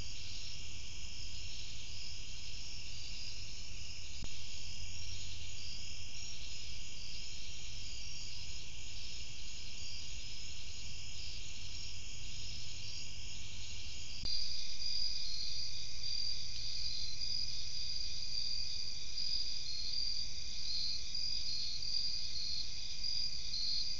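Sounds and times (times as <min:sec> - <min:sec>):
crickets and insects trilling: 0:00.0 - 0:23.9.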